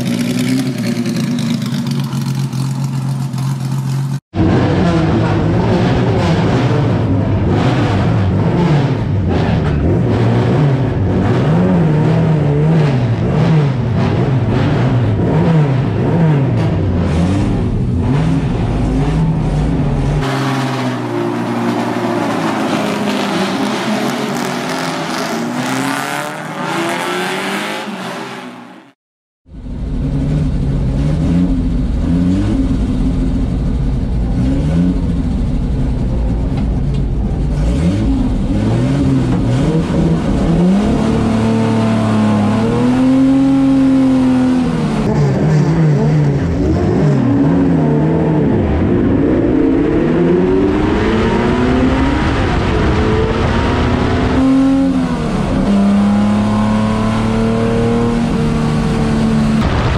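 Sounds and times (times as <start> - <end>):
racing car engine revving: 4.4 - 29.0, 30.0 - 59.9.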